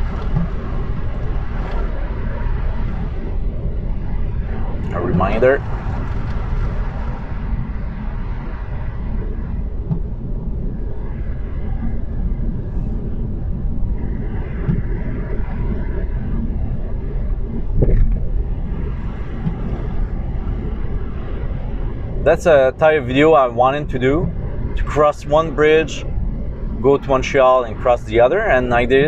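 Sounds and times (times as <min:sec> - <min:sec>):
car road and tyre noise: 0:00.0 - 0:29.0.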